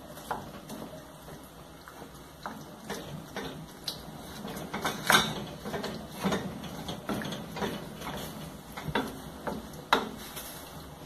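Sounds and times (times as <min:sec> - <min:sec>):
wooden spoon scraping a pan: 0:02.0 - 0:11.0.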